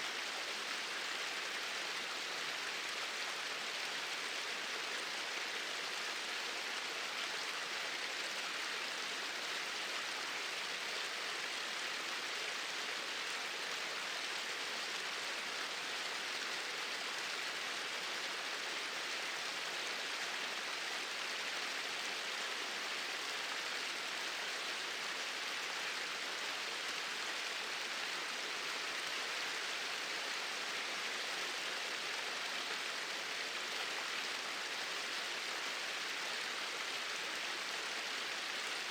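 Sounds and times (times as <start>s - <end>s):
small waterfall rushing: 0.0s - 38.9s.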